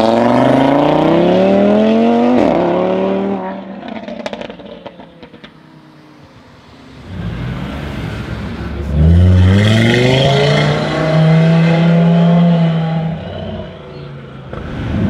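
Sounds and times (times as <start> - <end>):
turbocharged car engine revving: 0.0 - 5.3, 7.0 - 13.8.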